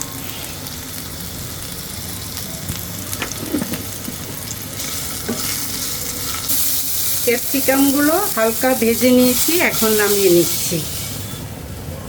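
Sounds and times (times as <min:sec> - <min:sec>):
vegetables sizzling in a frying pan: 0:00.0 - 0:11.7.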